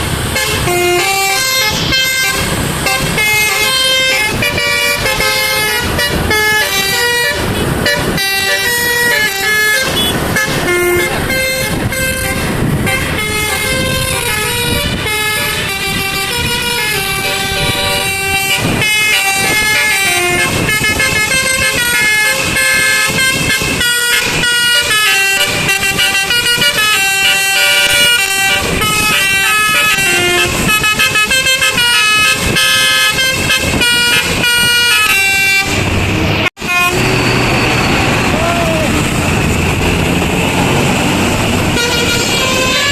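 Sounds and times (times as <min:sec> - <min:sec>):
heavy vehicle engine rumble: 0:00.0 - 0:42.9
road noise: 0:00.0 - 0:42.9
musical air horn tune: 0:00.3 - 0:35.9, 0:36.5 - 0:39.0, 0:41.7 - 0:42.9.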